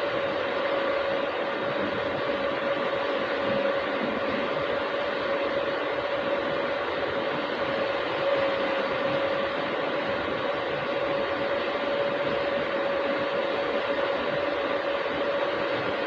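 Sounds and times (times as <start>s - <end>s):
machine hissing and humming: 0.0s - 16.0s.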